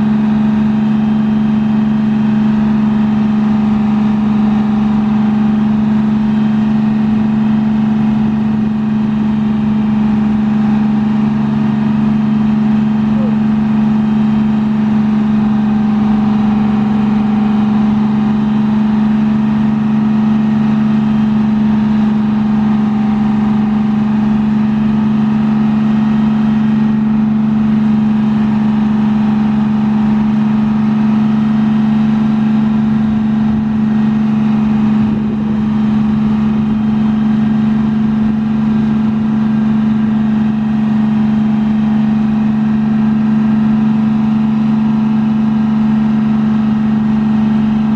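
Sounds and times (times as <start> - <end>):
diesel coach engine droning: 0.0 - 47.9.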